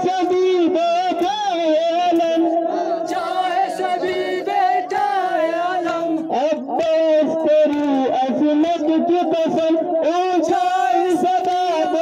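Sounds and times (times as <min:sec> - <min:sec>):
voices singing a mourning lament: 0:00.6 - 0:12.0.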